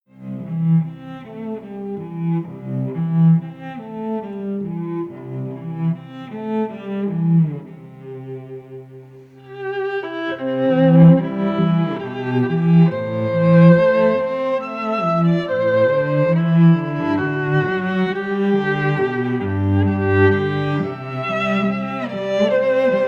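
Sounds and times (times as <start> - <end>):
low cello-like melody: 0.0 - 23.0.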